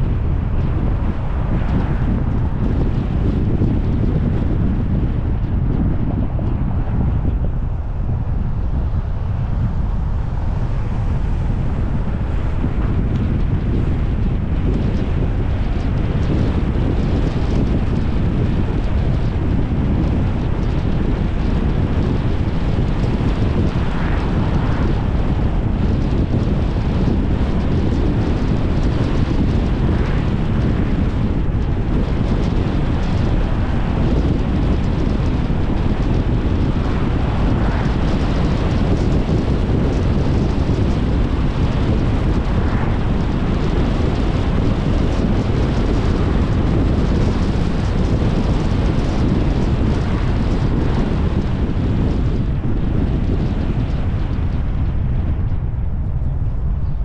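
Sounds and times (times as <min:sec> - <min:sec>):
car road noise: 0:00.0 - 0:57.0
wind rumble on microphone: 0:00.0 - 0:57.0.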